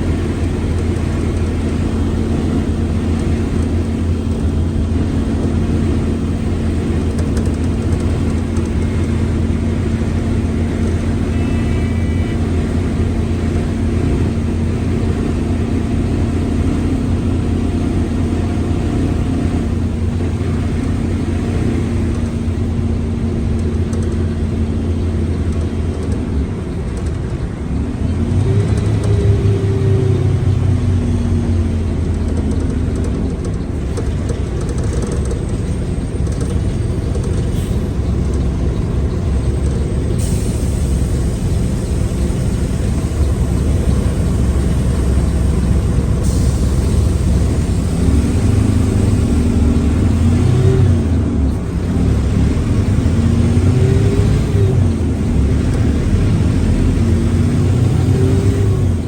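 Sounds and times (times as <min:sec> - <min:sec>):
bus engine drone: 0:00.0 - 0:59.0
gearbox whine: 0:00.0 - 0:59.0.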